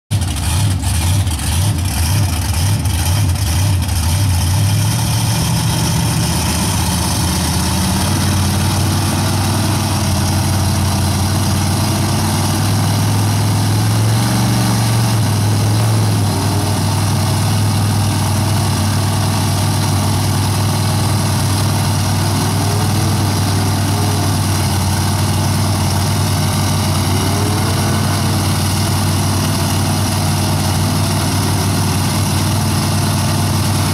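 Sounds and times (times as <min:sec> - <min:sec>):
truck engines revving under load: 0:00.1 - 0:33.9.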